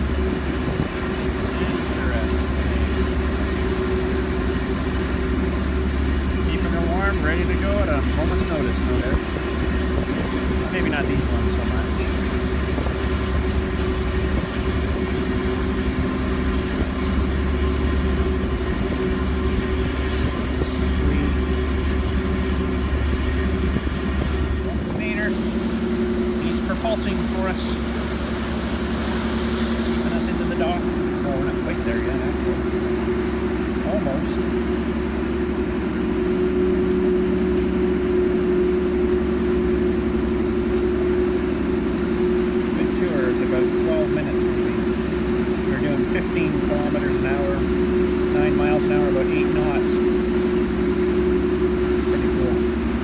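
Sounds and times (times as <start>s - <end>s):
ferry engines rumbling: 0.0s - 53.0s
water churning beside hull: 0.0s - 53.0s.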